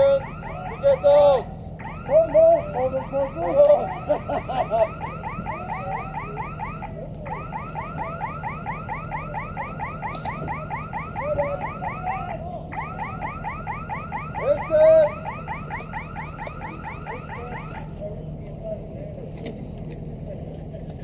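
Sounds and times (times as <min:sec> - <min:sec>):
electronic alarm siren warbling: 0:00.0 - 0:18.0.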